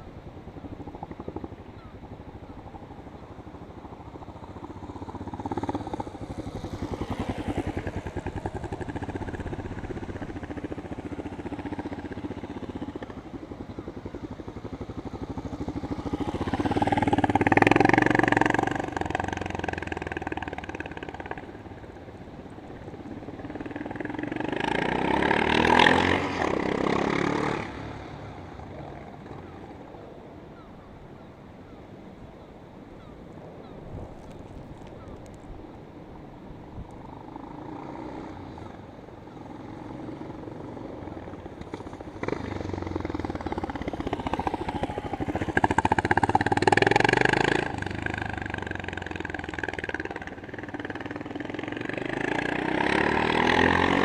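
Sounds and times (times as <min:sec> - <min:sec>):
motorcycle engine revving: 0:00.0 - 0:29.9, 0:36.9 - 0:54.0.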